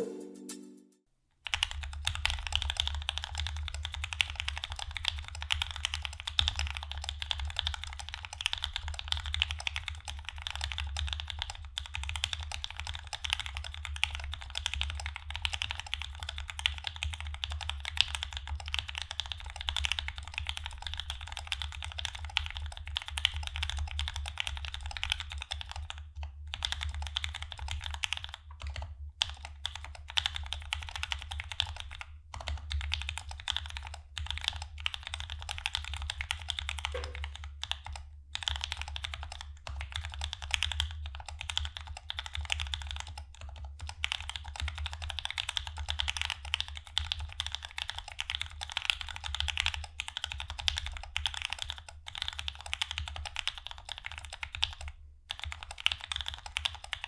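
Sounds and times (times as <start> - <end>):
mechanical keyboard typing: 1.4 - 57.0.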